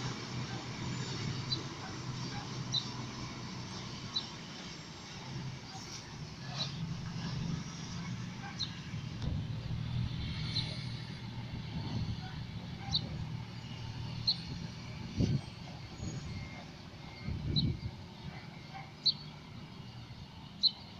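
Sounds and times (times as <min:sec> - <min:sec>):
truck diesel engine idling: 0:00.0 - 0:20.9.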